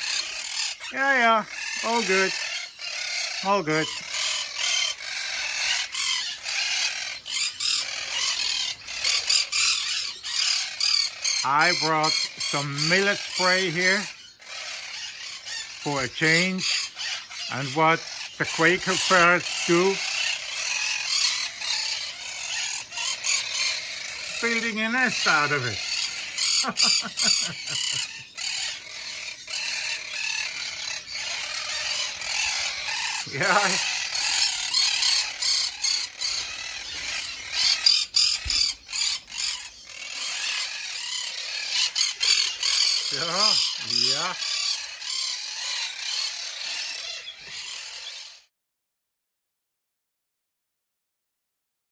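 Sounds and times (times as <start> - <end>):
parrots chattering: 0.0 - 48.5.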